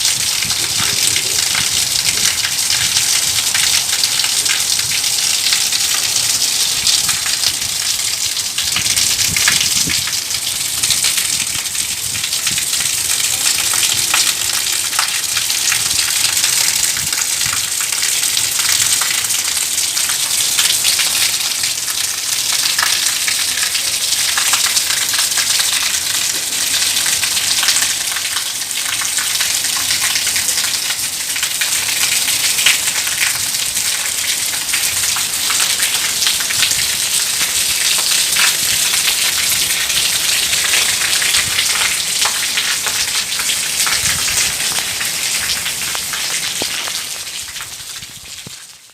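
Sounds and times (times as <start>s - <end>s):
rain pattering on hard surfaces: 0.0s - 48.9s.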